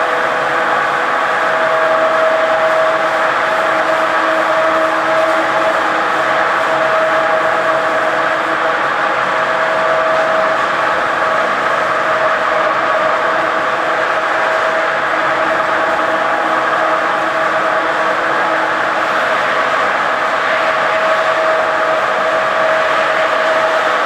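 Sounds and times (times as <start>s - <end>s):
machine droning with whine: 0.0s - 24.0s.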